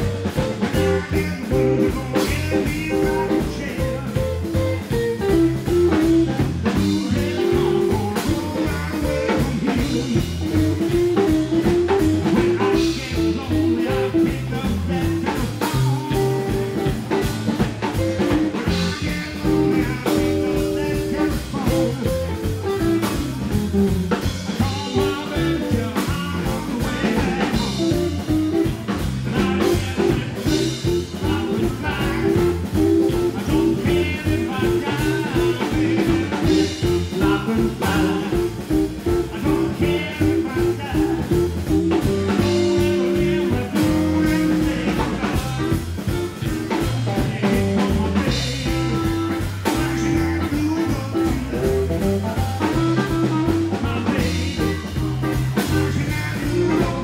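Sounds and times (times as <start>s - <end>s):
electric guitar: 0.0s - 57.0s
live rockabilly band: 0.0s - 57.0s.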